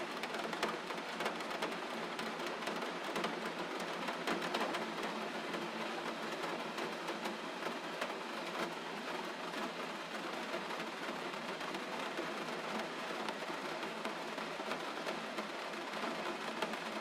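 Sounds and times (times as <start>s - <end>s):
gentle rain falling: 0.0s - 17.0s.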